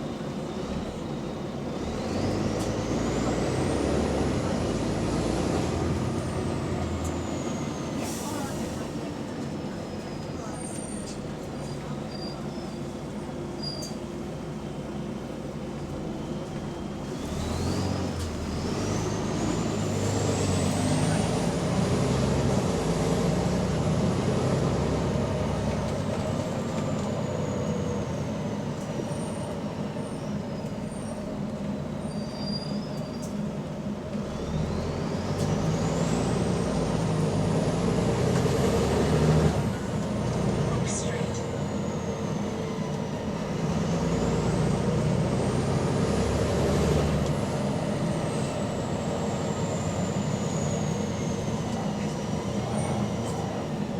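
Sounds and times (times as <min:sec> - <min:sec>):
bus diesel engine accelerating: 0:00.0 - 0:53.9.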